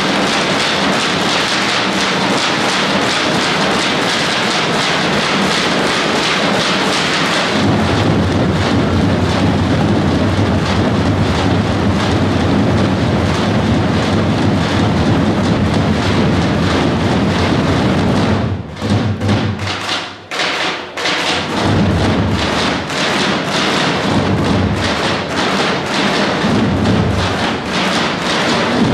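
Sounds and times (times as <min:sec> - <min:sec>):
massed drums rolling: 0:00.0 - 0:28.9.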